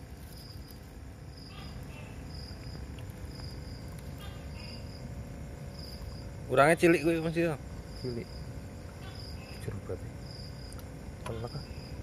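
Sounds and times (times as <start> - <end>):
insect chirping: 0.0 - 12.0
low background rumble: 0.0 - 12.0.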